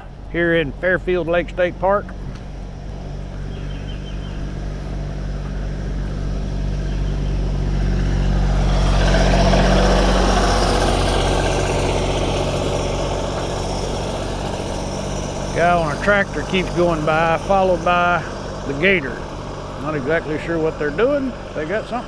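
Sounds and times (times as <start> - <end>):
tractor engine driving past: 0.0 - 22.0.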